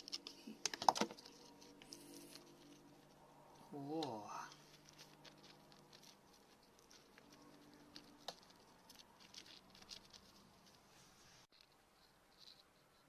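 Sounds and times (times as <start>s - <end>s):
faint low hum: 0.0s - 13.0s
light clicks and scratches: 0.0s - 13.0s.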